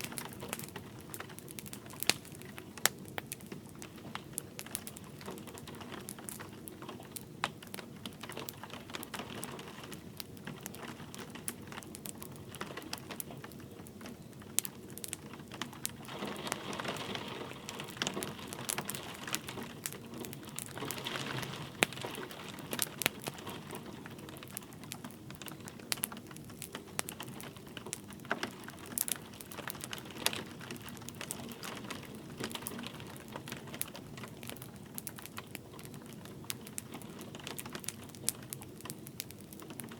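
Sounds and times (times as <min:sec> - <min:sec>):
light rain hiss: 0:00.0 - 0:39.9
wood fire crackling and popping: 0:00.0 - 0:39.9.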